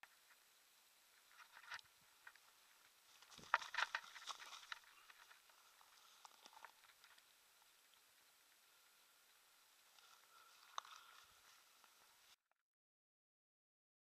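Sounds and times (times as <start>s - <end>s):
grass rustling and crackling: 0.0s - 12.4s.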